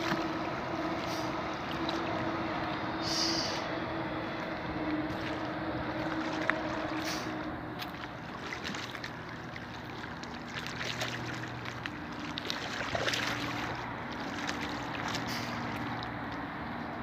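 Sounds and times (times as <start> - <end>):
low motor hum: 0.0 - 17.0
water lapping and splashing: 0.0 - 17.0.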